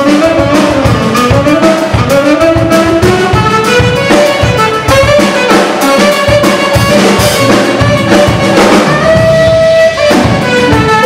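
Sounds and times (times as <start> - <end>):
drum kit: 0.0 - 11.0
electric bass: 0.0 - 11.0
electric guitar: 0.0 - 11.0
keyboards: 0.0 - 11.0
saxophone lead: 0.0 - 11.0.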